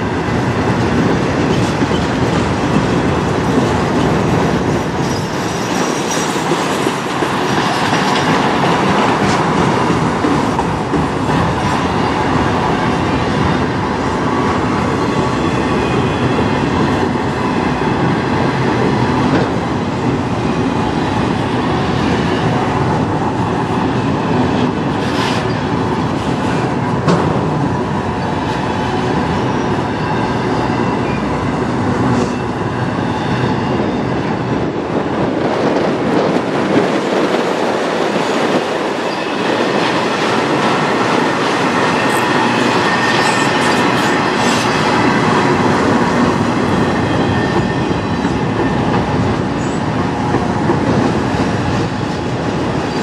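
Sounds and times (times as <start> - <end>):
freight cars rumbling on rails: 0.0 - 53.0.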